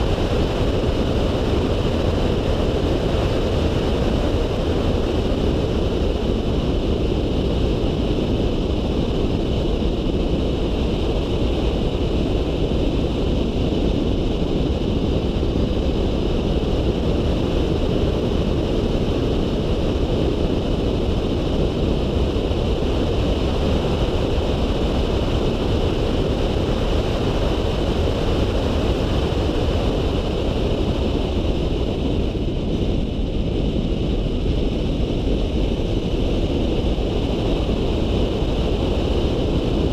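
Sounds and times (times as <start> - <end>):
constant high hum: 0.0 - 39.9
wind rushing on microphone: 0.0 - 39.9.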